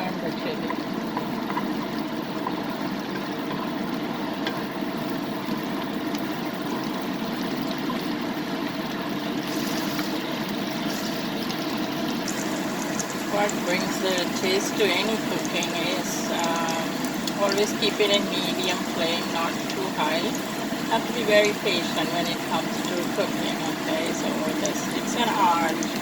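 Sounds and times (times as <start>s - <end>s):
oil sizzling in a frying pan: 0.0s - 26.0s
faint crackles: 0.2s - 26.0s.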